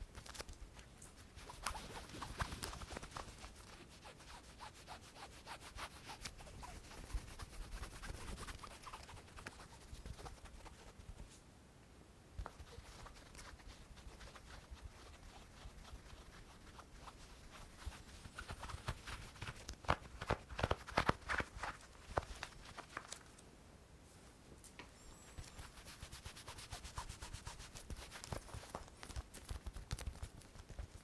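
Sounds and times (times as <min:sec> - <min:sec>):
faint rustle: 0:00.0 - 0:11.5, 0:12.4 - 0:31.0.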